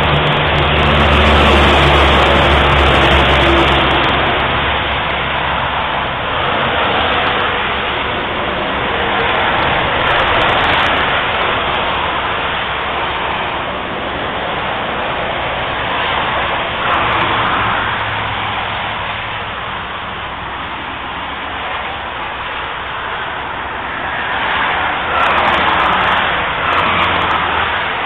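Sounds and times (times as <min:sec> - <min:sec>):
lorry engine hum: 0:00.0 - 0:28.0
tyres hissing on wet road: 0:00.0 - 0:28.0.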